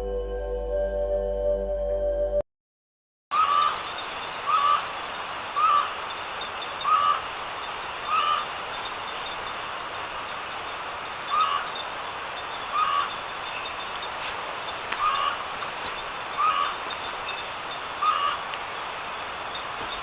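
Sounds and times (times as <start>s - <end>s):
steady hiss: 3.6s - 20.0s.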